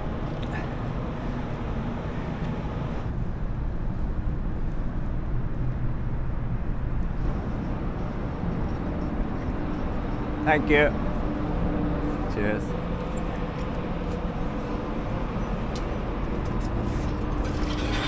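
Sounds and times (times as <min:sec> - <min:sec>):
low rumble of engines: 0:00.0 - 0:18.0.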